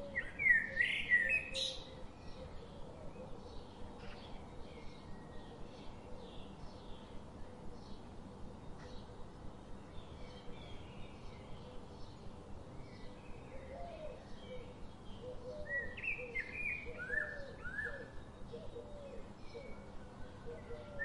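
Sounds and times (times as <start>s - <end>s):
small birds chirping: 0.0s - 21.0s
steady outdoor hum: 0.0s - 21.0s.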